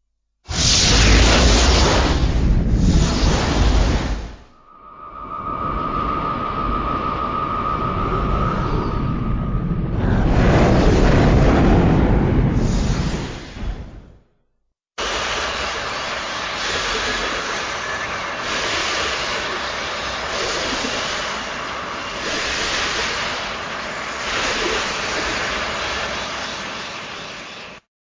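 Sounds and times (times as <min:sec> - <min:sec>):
rushing wind-like gale: 0:00.5 - 0:14.1, 0:15.0 - 0:27.8.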